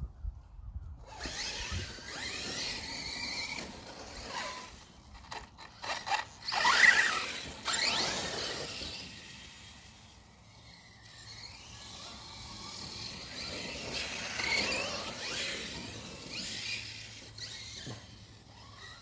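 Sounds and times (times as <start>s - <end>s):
electric rc car motors whining: 0.9s - 19.0s.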